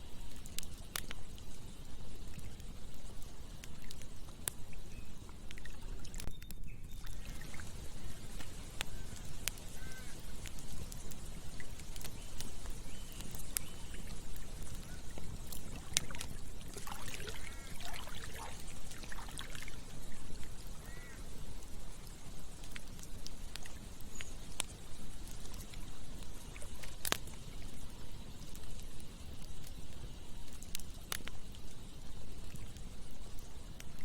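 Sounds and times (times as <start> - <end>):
campfire crackling and popping: 0.0 - 34.0
trickling gurgling water: 0.1 - 6.3, 6.9 - 34.0.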